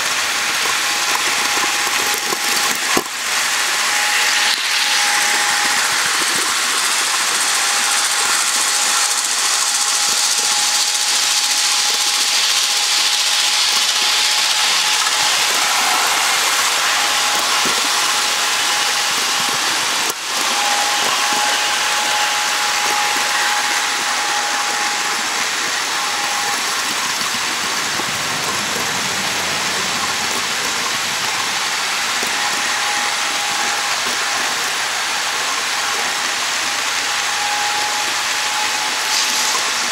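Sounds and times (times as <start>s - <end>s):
model train rolling hiss: 0.0s - 39.9s
thin high whine: 0.0s - 39.9s.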